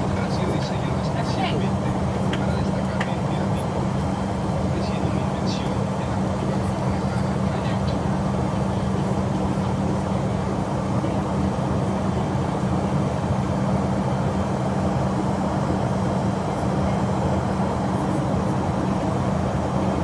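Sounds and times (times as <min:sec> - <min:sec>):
jet engine and airflow rumble: 0:00.0 - 0:20.0.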